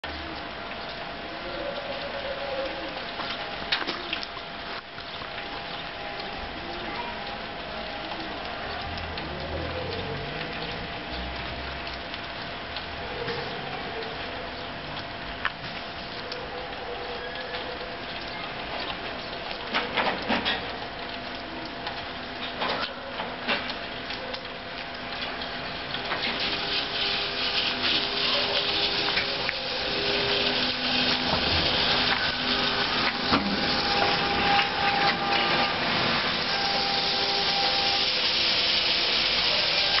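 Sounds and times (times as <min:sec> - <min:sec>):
tyres on wet slushy road: 0:00.0 - 0:40.0
trolleybus electric drive whine: 0:05.0 - 0:40.0.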